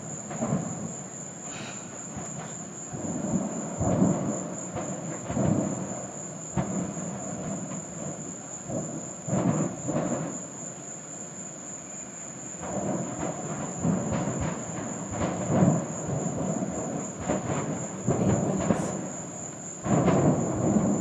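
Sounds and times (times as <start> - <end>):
crickets chirping: 0.0 - 21.0
distant rumbling and booming: 0.1 - 1.0, 2.0 - 10.4, 12.6 - 21.0.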